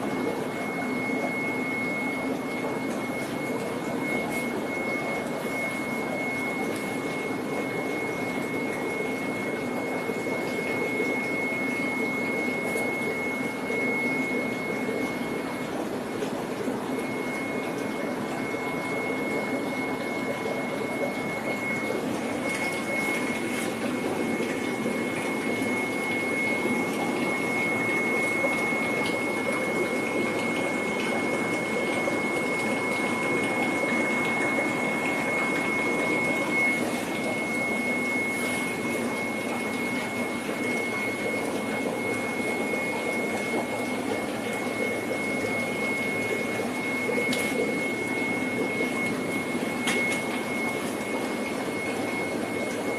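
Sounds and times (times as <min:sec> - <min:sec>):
constant high-pitched whine: 0:00.0 - 0:52.9
pump hum and rushing water: 0:00.0 - 0:52.9.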